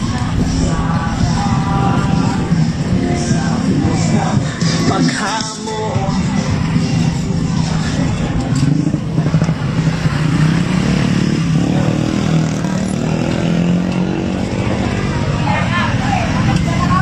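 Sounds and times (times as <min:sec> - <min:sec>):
small motorcycle engines humming: 0:00.0 - 0:17.0.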